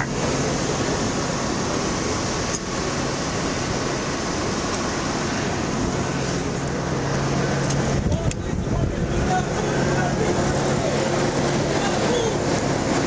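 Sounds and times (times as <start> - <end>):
fan noise: 0.0 - 13.0
vehicle engine idling: 0.0 - 13.0.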